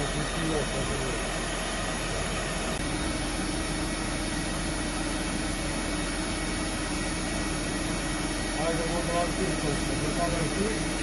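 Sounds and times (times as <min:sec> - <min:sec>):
grinding machine hiss: 0:00.0 - 0:11.0
low steady hum: 0:00.0 - 0:11.0.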